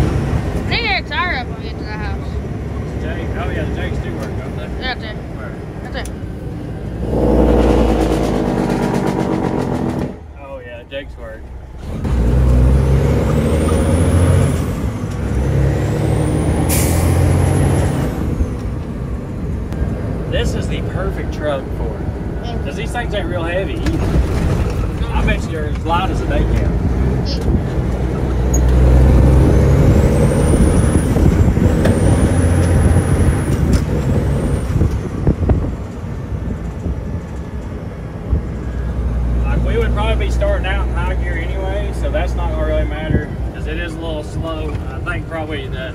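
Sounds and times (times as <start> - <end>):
diesel truck engine braking: 0.0 - 45.9.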